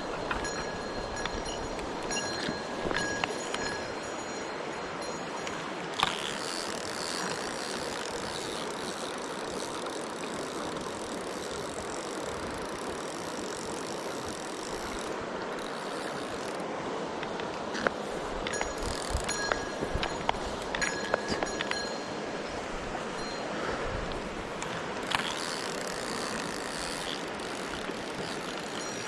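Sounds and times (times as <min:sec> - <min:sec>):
mountain stream rushing: 0:00.0 - 0:29.0.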